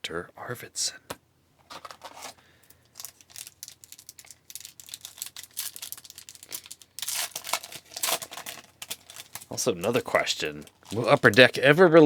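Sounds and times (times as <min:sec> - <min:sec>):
foil wrapper crinkling: 0:01.7 - 0:11.9.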